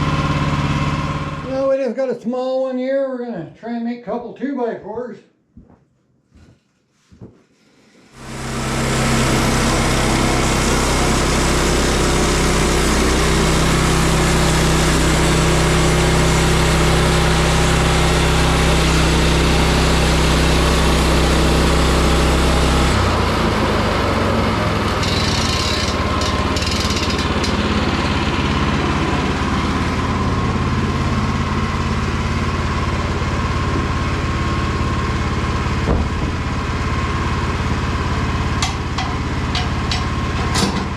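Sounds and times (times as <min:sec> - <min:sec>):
sawmill gas engine running: 0:00.0 - 0:01.8, 0:07.8 - 0:40.9.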